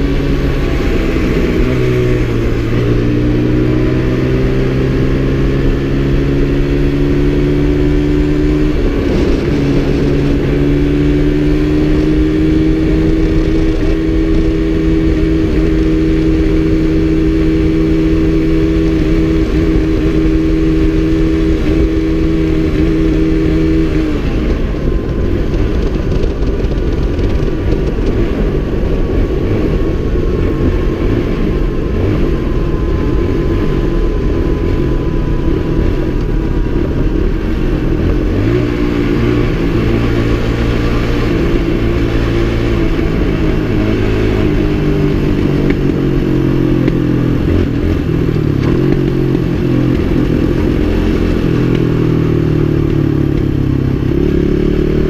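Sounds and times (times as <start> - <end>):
motorcycle engine running: 0.0 - 55.0
wind on microphone: 0.0 - 55.0.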